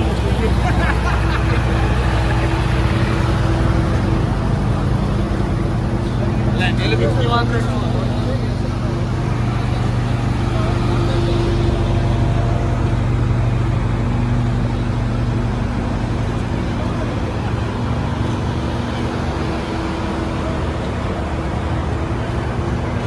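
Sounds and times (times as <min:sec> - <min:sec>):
car engines idling: 0:00.0 - 0:23.0.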